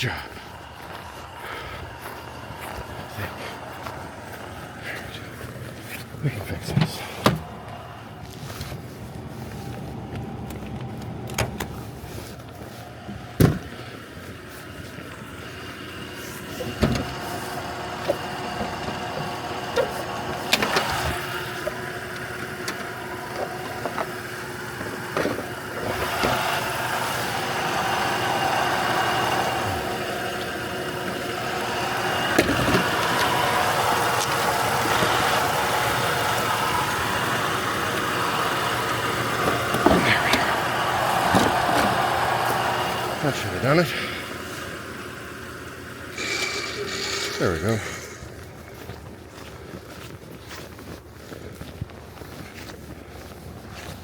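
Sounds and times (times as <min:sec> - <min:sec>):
motor running: 0:00.0 - 0:51.3.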